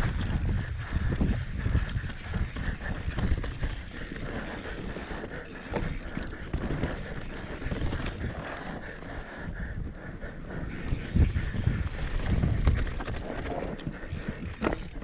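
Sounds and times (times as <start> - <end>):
bike knocking and rattling: 0.0 - 9.6, 10.6 - 15.0
wind buffeting microphone: 0.0 - 15.0.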